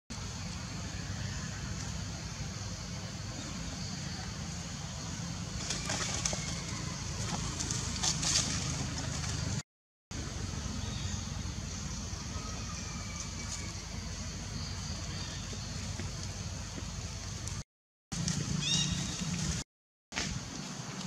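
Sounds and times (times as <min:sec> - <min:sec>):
low rumble with high hiss: 0:00.1 - 0:17.6.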